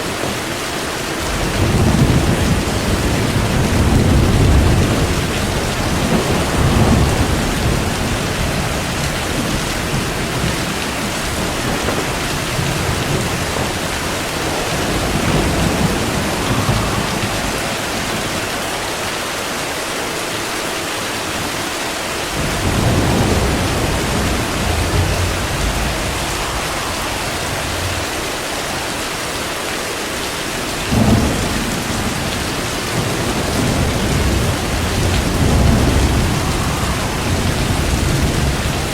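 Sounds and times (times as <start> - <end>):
rolling thunder: 0.0 - 19.4, 21.3 - 38.9
heavy rain: 0.0 - 38.9
sharp thunderclap: 1.2 - 19.1, 22.3 - 38.9.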